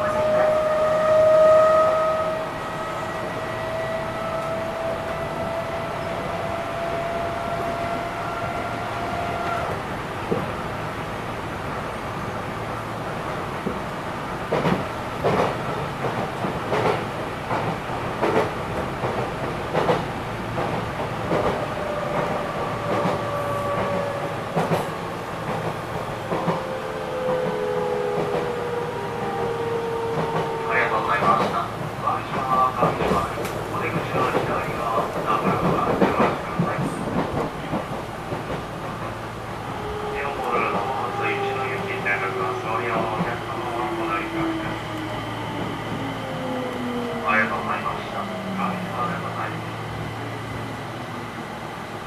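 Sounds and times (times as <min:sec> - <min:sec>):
train wheels on track: 0:00.0 - 0:52.0.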